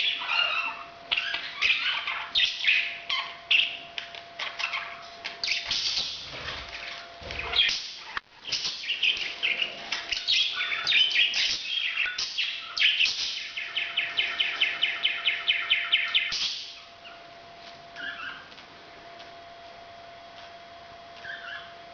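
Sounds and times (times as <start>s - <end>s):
parrot chirping and chattering: 0.0s - 17.2s, 18.0s - 18.5s, 21.2s - 21.8s
faint steady hum: 0.0s - 21.9s.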